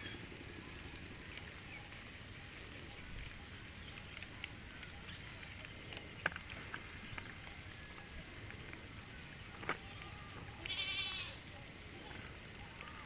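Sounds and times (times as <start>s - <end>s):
faint clicks: 0.0s - 13.0s.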